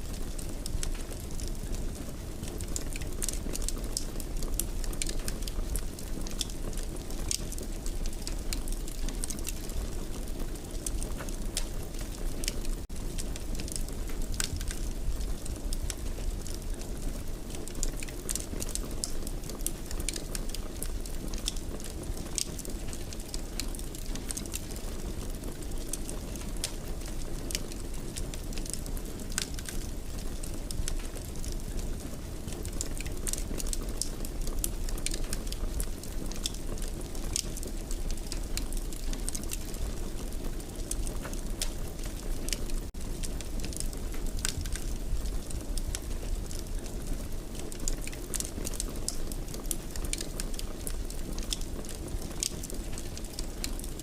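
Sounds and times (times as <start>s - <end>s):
low rumble of flames: 0.0s - 54.0s
fire pops and snaps: 0.2s - 1.8s, 2.5s - 54.0s.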